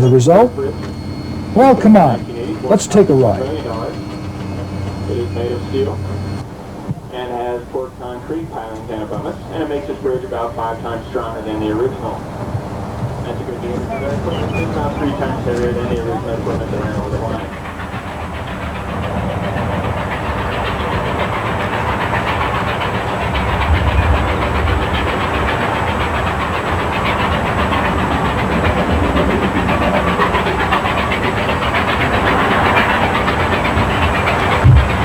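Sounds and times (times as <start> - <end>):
steam train clatter and rumble: 0.0 - 35.0.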